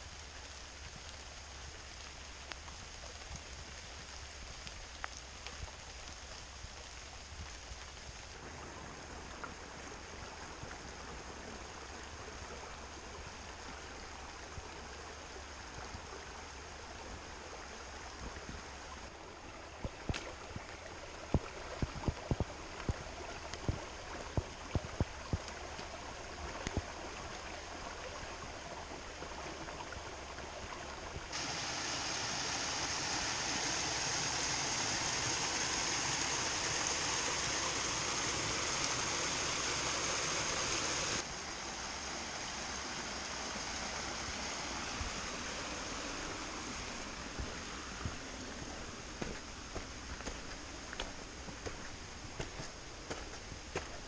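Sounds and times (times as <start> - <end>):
small waterfall rushing: 0.0 - 54.0
stream running over rocks: 0.0 - 54.0.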